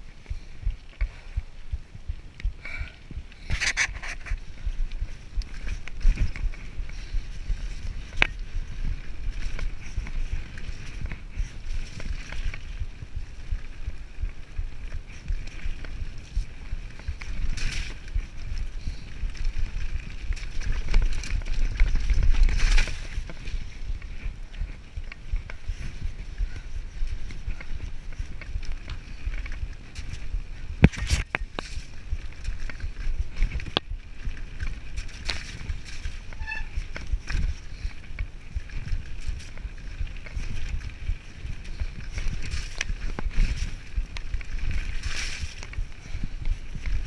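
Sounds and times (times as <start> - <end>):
bike tyre noise and rattling: 0.0 - 47.0
wind rumble on microphone: 0.0 - 47.0.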